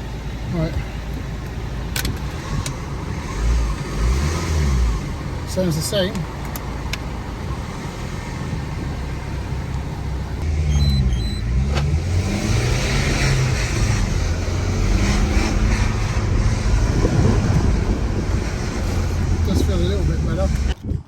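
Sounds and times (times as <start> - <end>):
diesel engine accelerating: 0.0 - 20.8.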